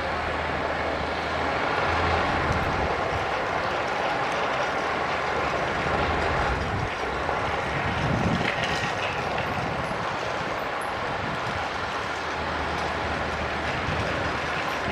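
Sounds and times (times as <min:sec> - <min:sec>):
heavy diesel machinery running: 0:00.0 - 0:14.9.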